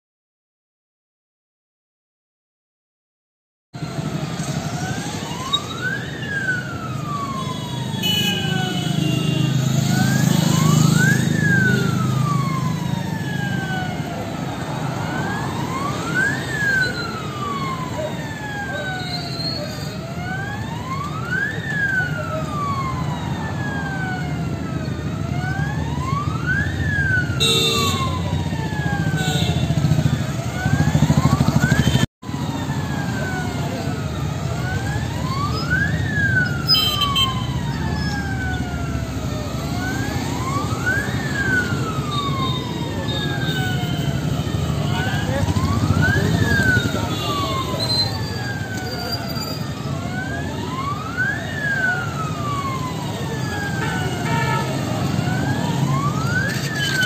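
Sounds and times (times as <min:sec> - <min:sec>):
electronic alarm siren wailing: 0:03.8 - 0:57.0.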